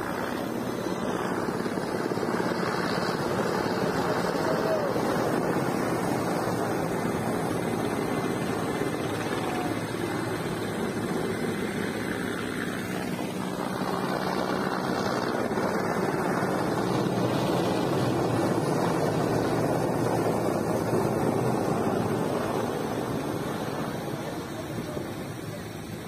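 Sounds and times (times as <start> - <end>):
helicopter flying overhead: 0.0 - 26.0.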